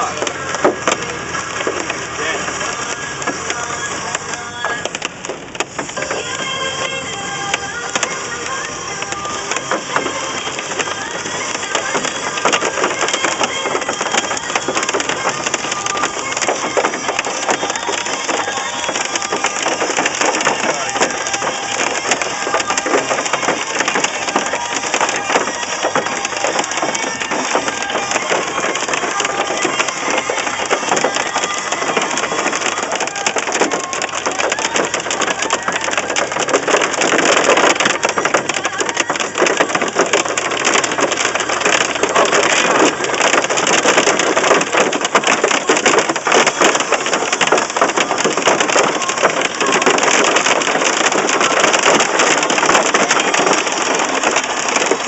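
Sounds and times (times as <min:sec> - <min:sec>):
hail pelting car roof: 0:00.0 - 0:55.0.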